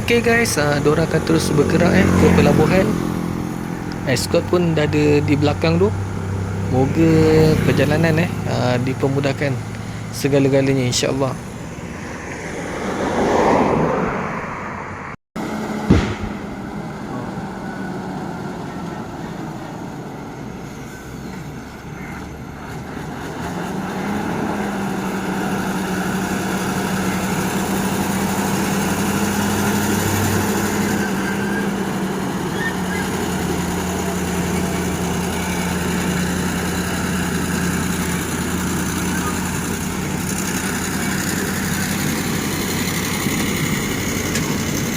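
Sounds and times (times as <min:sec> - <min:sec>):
diesel truck engine droning: 0:00.0 - 0:44.9.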